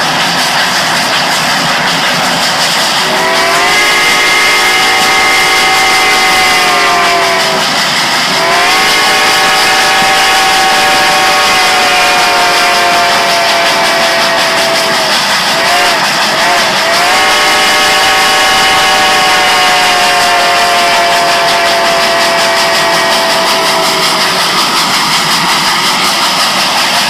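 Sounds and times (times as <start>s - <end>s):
steam locomotive whistle: 0.0s - 27.0s.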